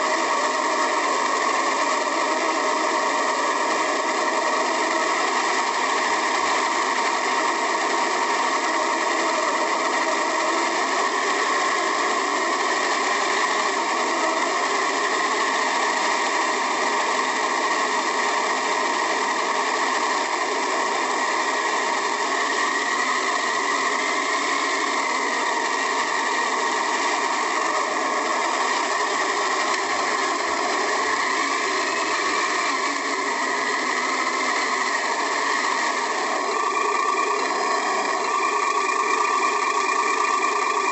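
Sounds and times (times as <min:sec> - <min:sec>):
small electric motor whirring: 0:00.0 - 0:40.9.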